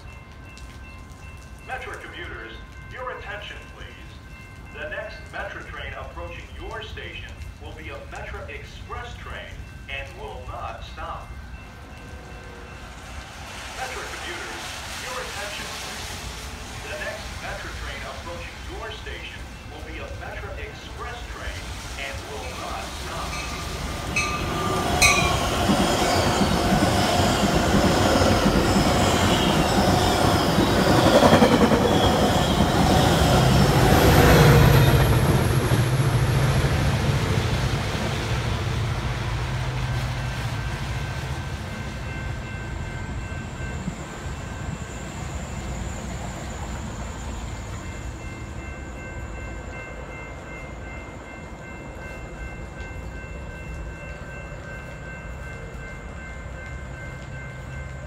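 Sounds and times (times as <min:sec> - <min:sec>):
train wheel and rail noise: 0:00.0 - 0:58.0
locomotive engine hum: 0:06.6 - 0:58.0.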